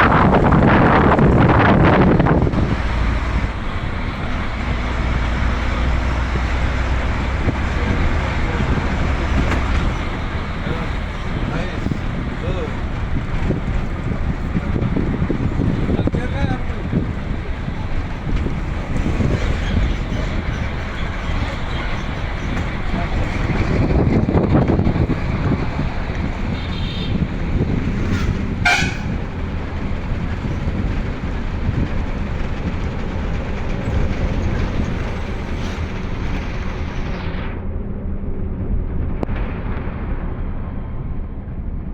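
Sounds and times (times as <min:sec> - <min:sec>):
air rushing on microphone: 0:00.0 - 0:37.8
motorcycle engine: 0:00.8 - 0:37.2.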